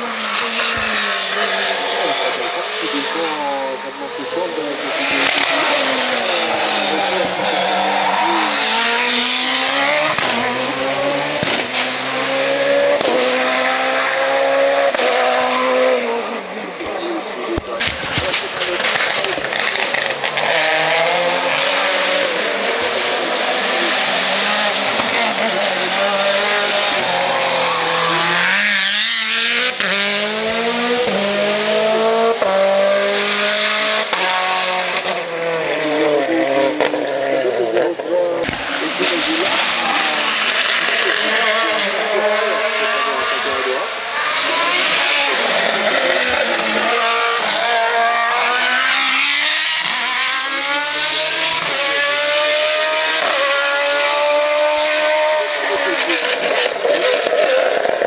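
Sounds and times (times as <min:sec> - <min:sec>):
gear upshifts: 0:00.0 - 0:56.4
race car engine accelerating: 0:00.0 - 0:58.0.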